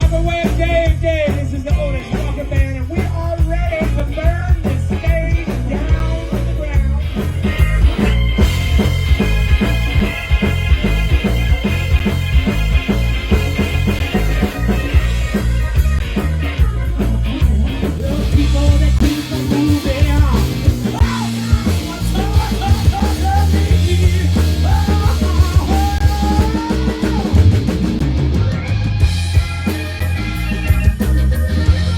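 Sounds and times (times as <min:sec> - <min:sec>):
bending sliding lead guitar: 0:00.0 - 0:31.9
drum and bass beat: 0:00.0 - 0:31.9
live rock band playing: 0:00.0 - 0:31.9.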